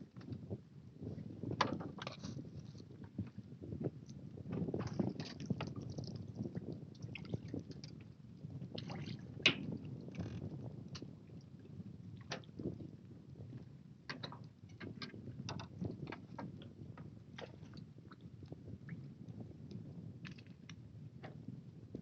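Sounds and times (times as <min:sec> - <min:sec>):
water lapping and sloshing: 0:00.0 - 0:22.0.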